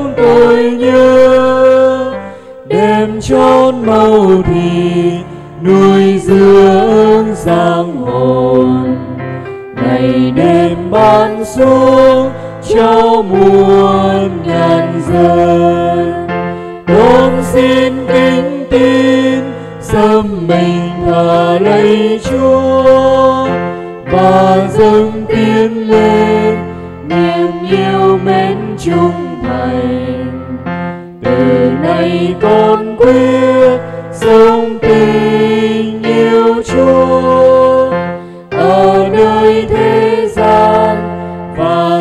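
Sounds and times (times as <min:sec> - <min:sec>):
hymn singing with instruments: 0:00.0 - 0:42.0.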